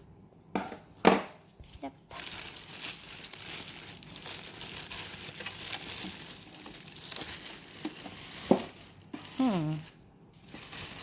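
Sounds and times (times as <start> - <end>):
packaging crinkling and rustling: 2.1 - 11.0.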